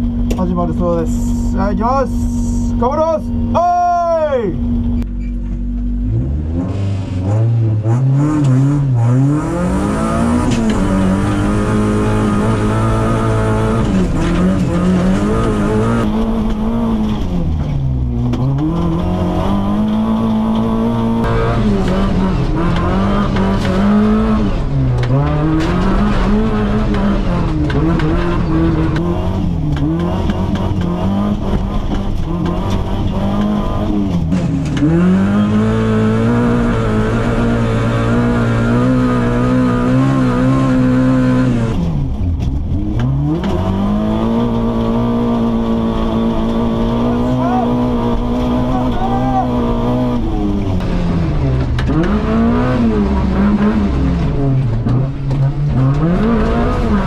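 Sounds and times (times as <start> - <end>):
car engine revving: 4.4 - 57.0.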